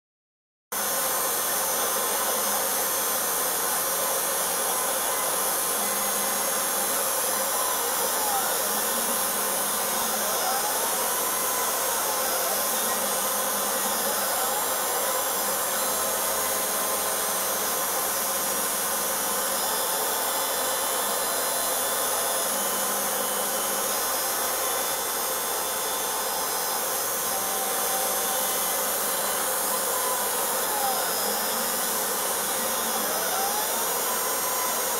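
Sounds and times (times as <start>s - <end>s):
spindle motor whirring: 0.8s - 34.9s
stepper motor whine: 0.8s - 34.9s.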